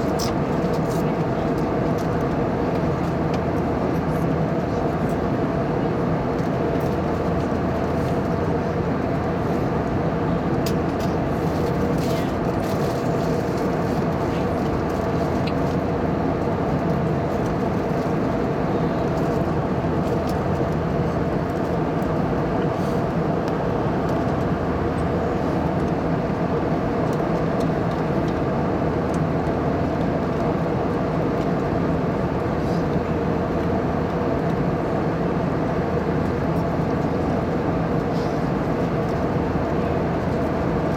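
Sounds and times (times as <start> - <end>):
airliner cabin noise: 0.0 - 40.9.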